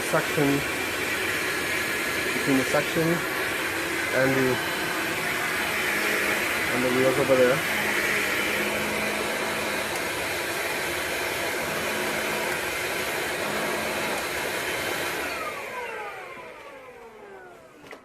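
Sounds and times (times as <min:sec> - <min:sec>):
cordless vacuum motor whine: 0:00.0 - 0:18.0.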